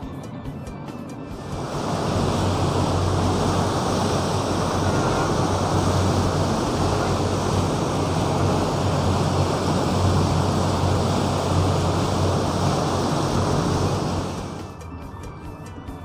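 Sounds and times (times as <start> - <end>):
steady low hum: 1.3 - 14.8
rushing churning water: 1.4 - 14.7
wind on microphone: 1.4 - 14.8.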